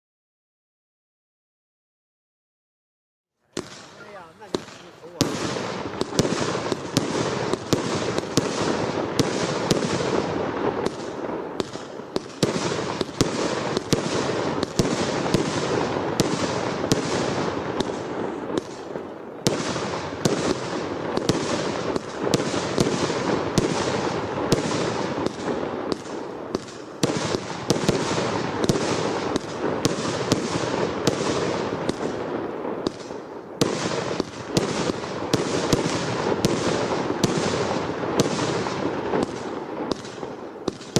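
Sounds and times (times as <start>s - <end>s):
firework sharp bangs: 3.5s - 40.9s.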